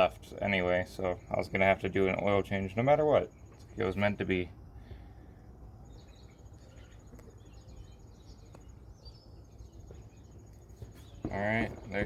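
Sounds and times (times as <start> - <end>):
bird chirps: 0.9 - 12.0.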